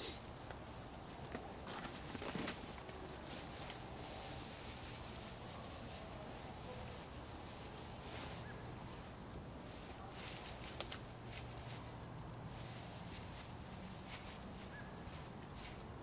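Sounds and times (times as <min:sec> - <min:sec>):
pine needles rustling: 0:00.4 - 0:16.0.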